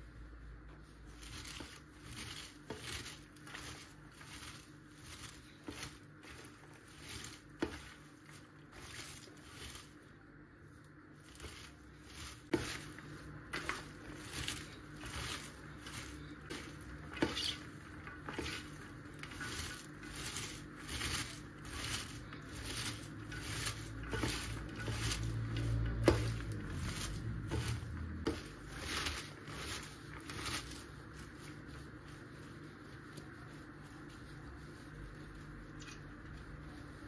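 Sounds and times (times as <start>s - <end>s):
hands kneading cabbage: 0.0s - 37.0s.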